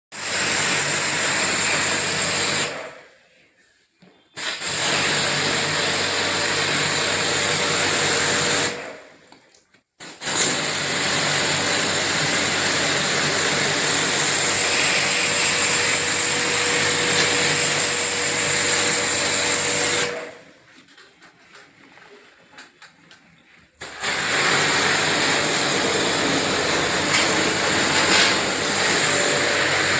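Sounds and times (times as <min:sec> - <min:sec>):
pressure washer pump whining: 0:00.2 - 0:02.9, 0:04.4 - 0:09.0, 0:10.0 - 0:20.5, 0:23.8 - 0:29.9.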